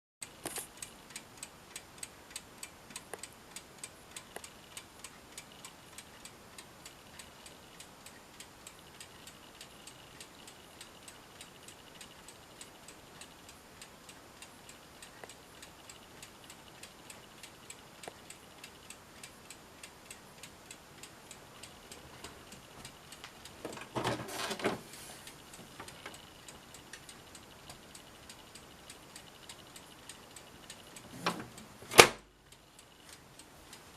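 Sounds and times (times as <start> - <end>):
mechanical ticking: 0.2 - 24.0, 25.2 - 33.9.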